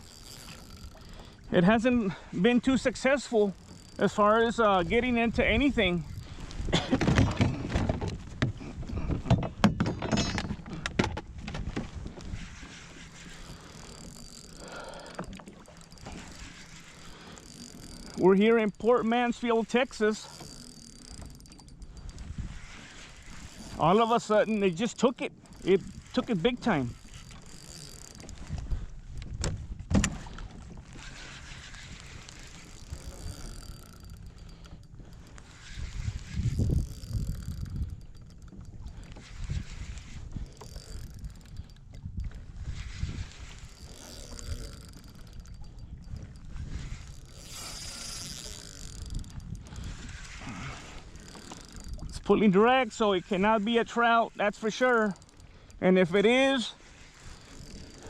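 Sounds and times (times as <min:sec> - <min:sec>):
gear knocking and clicking: 0:00.0 - 0:01.9, 0:02.6 - 0:58.0
wind rumbling on microphone: 0:00.0 - 0:24.5, 0:25.3 - 0:54.3
water moving around kayak: 0:00.0 - 0:58.0.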